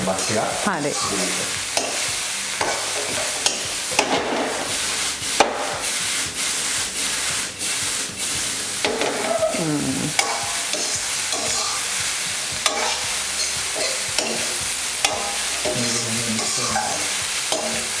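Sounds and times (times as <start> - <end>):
rice sizzling in a pan: 0.0 - 18.0
spatula scraping a pan: 1.0 - 18.0.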